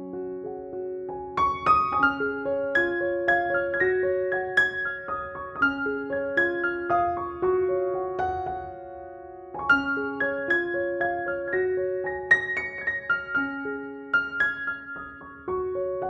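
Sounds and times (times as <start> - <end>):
gentle solo piano melody: 0.0 - 16.0.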